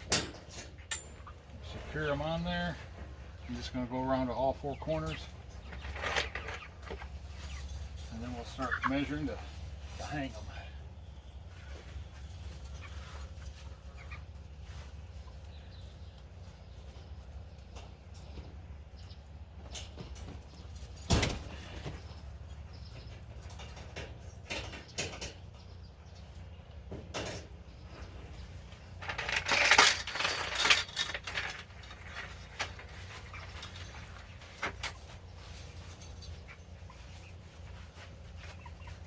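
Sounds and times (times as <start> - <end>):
metal chain clinking and rattling: 0.0 - 14.8, 19.7 - 26.2, 28.6 - 39.0.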